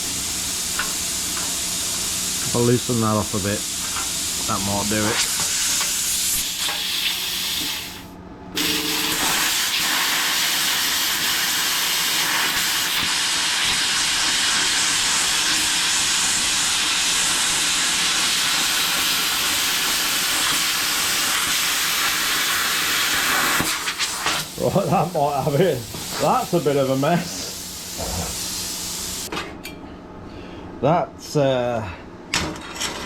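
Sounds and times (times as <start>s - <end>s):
plasma cutter hissing: 0.0s - 29.3s.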